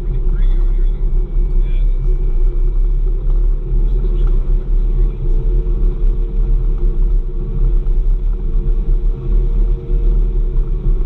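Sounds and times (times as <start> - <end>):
snow groomer engine rumbling: 0.0 - 11.0.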